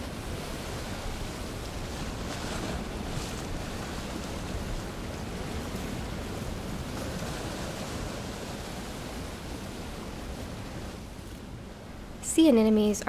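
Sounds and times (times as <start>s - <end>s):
surf washing into a tide pool: 0.0s - 11.8s.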